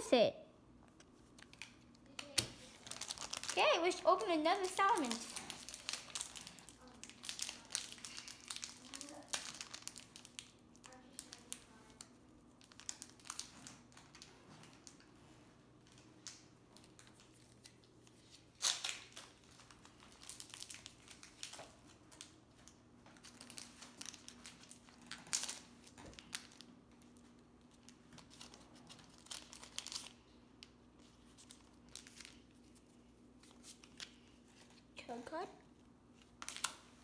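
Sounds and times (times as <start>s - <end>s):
foil wrapper tearing and crinkling: 1.4s - 15.0s, 16.2s - 34.3s, 36.2s - 37.0s.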